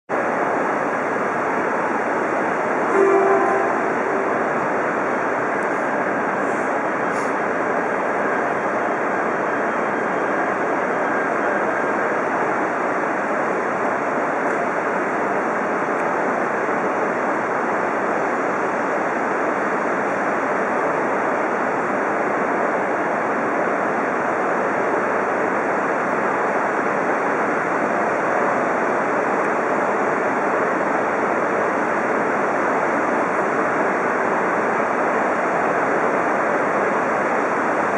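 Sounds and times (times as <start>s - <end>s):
trains rushing noise: 0.1s - 37.9s.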